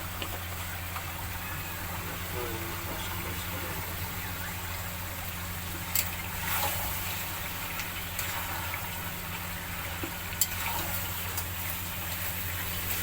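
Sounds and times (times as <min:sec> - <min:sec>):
chicken sizzling in a pan: 0:00.0 - 0:13.0
low steady hum: 0:00.0 - 0:13.0.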